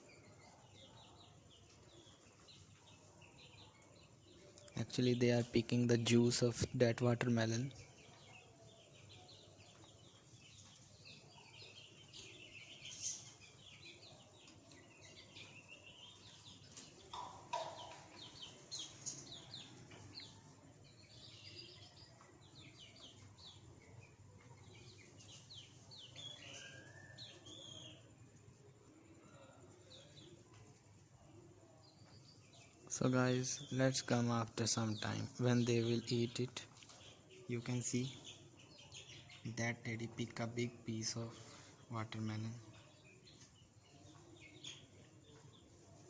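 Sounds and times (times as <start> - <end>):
chicks peeping: 0.0 - 46.0.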